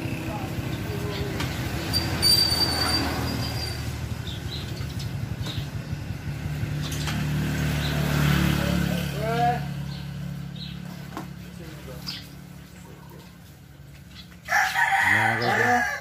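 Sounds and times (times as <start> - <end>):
engine rumbling: 0.0 - 14.5.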